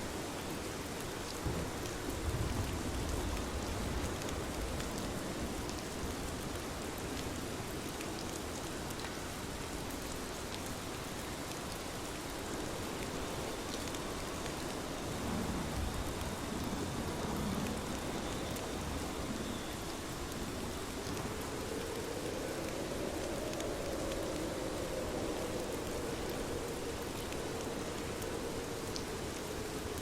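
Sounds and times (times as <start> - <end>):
steady rain hiss: 0.0 - 30.0
raindrop ticks: 1.2 - 30.0.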